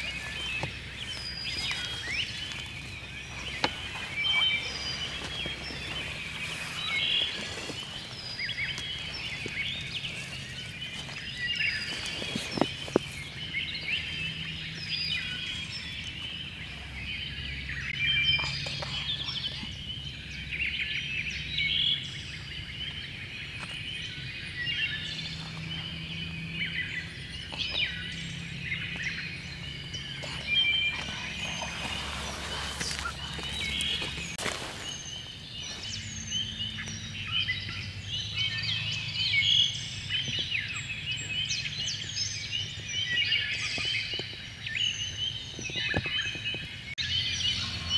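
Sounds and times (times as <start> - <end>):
low steady hum: 0.0 - 43.8
songbirds chirping and trilling: 0.0 - 47.9.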